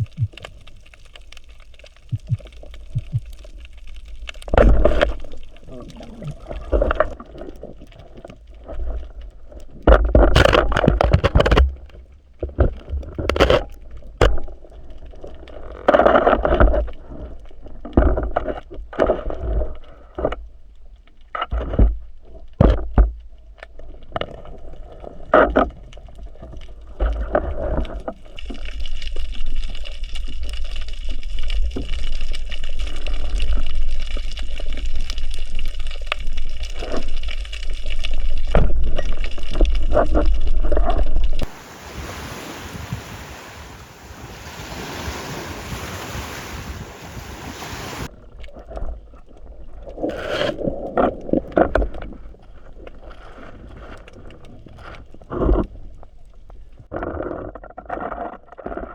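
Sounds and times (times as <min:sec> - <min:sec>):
water sloshing and splashing: 0:00.0 - 0:58.9.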